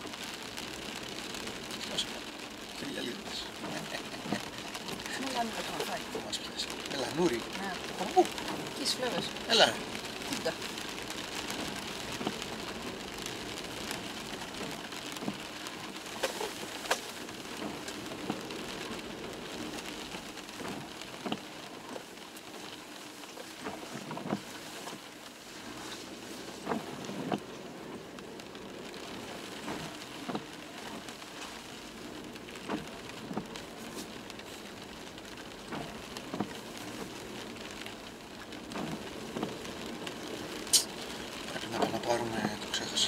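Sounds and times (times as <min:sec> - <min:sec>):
road and tyre noise: 0:00.0 - 0:43.0.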